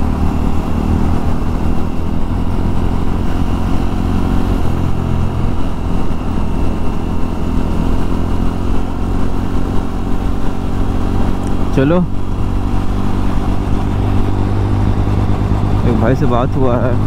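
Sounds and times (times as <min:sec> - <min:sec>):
low rumble: 0:00.0 - 0:17.0
motorcycle engine running: 0:00.0 - 0:17.0.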